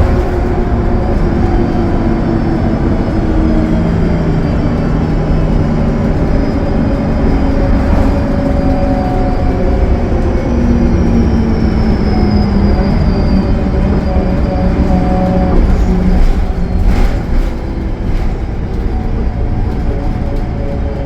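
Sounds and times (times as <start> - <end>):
bus engine drone: 0.0 - 21.0
high turbo whine: 0.0 - 21.0
road noise: 0.0 - 21.0.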